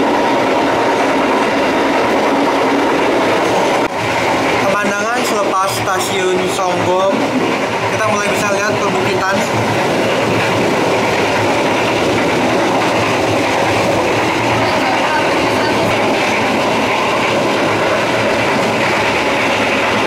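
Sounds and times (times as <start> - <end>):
train wheels on rail: 0.0 - 20.0.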